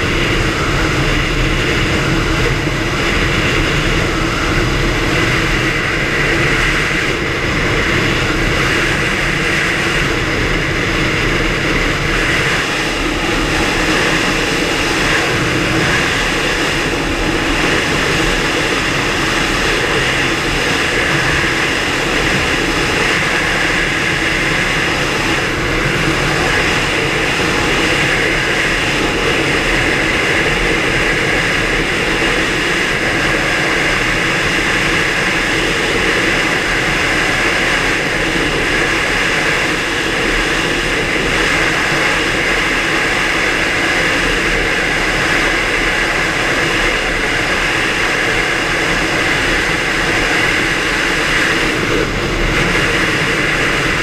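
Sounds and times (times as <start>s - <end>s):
wind and water rushing: 0.0s - 54.0s.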